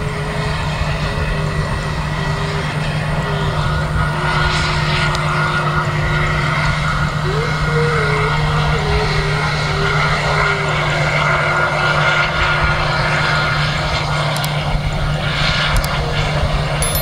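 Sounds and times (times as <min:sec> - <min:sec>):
aircraft engines: 0:00.0 - 0:17.0.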